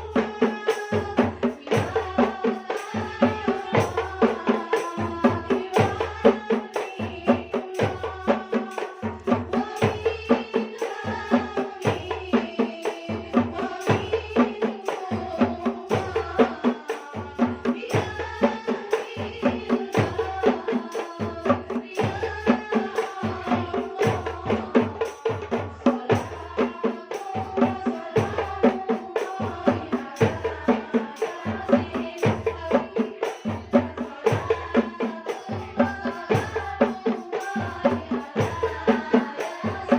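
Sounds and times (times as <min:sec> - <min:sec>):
frame drums beating: 0:00.0 - 0:39.9
group singing: 0:00.0 - 0:39.9.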